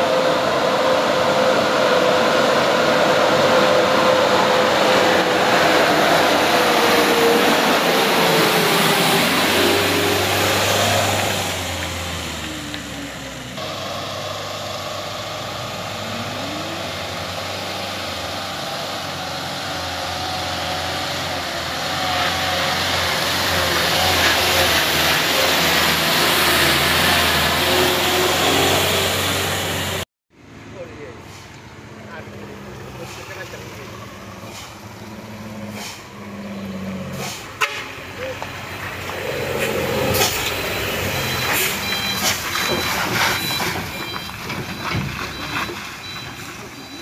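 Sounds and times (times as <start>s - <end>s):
truck diesel engines climbing: 0.0s - 47.0s.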